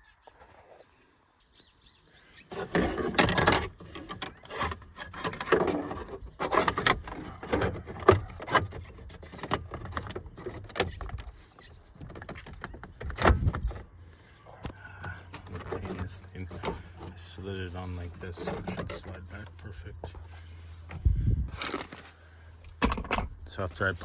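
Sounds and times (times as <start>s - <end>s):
plastic parts scraping and clicking: 2.4s - 13.9s, 14.6s - 24.0s.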